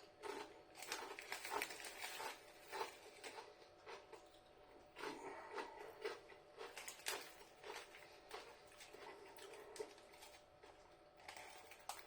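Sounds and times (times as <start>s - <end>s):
person chewing crisps: 0.0s - 12.0s.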